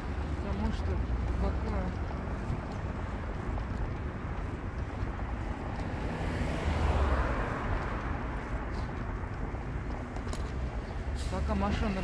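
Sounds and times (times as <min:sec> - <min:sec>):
traffic rumble: 0:00.0 - 0:12.0
vehicle passing: 0:00.0 - 0:12.0.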